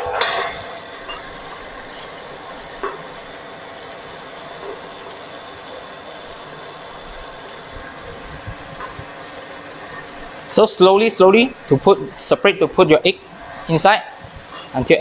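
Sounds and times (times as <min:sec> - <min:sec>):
stand mixer running: 0:00.0 - 0:15.0.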